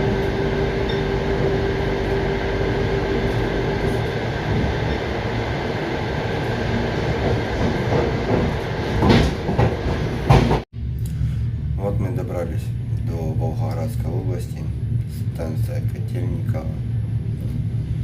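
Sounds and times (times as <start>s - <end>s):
steady hum: 0.0s - 18.0s
train wheels rumbling on rails: 0.0s - 18.0s.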